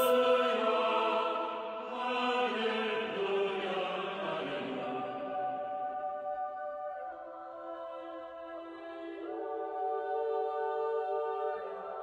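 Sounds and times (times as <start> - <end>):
chant-like voices holding notes: 0.0 - 12.0.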